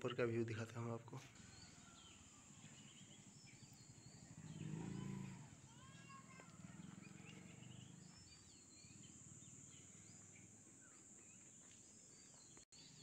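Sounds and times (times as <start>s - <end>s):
bird chirps: 1.2s - 13.0s
high insect hum: 1.3s - 13.0s.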